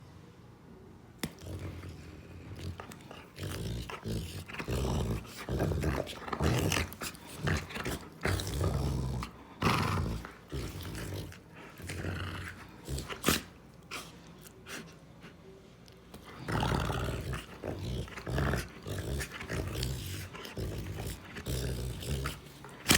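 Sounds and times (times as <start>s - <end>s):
dog growling: 1.2s - 14.8s, 16.2s - 22.9s.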